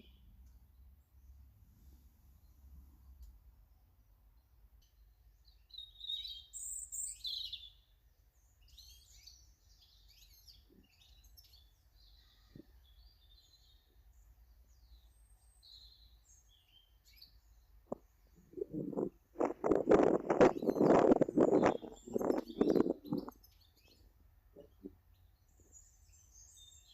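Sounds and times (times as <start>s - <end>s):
small birds chirping: 4.2s - 26.9s.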